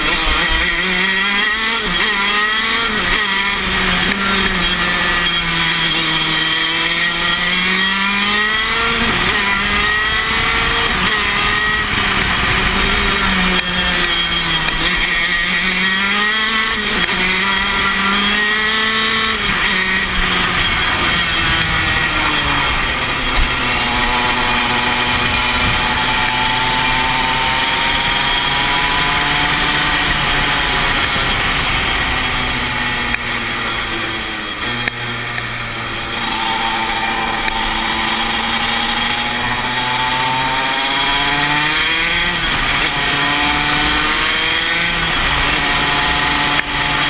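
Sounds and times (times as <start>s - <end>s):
kart engine racing: 0.0s - 47.0s.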